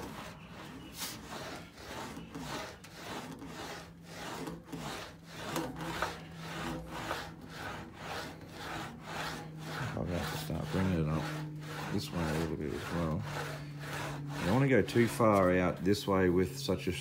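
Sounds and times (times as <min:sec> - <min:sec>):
sheet metal rubbing swish: 0:00.0 - 0:16.6.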